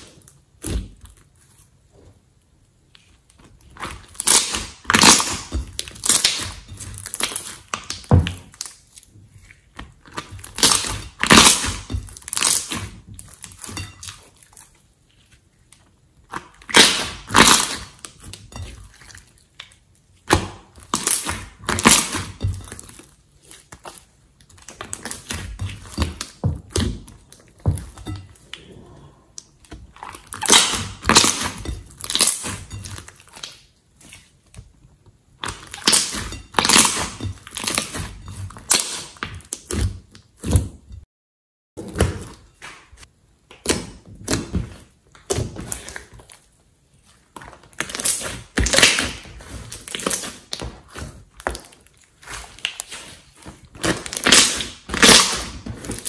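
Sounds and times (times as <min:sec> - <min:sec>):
wet slime squelches: 0:00.0 - 0:41.0, 0:41.8 - 0:56.0.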